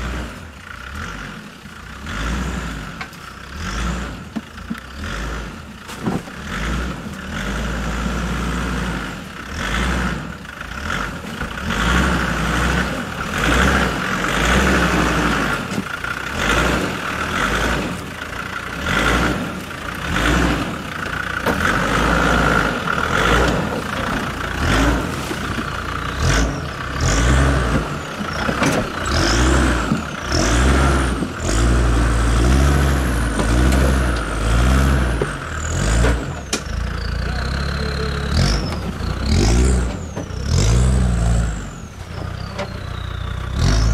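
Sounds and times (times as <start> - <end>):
diesel engine revving under load: 0.0 - 43.9.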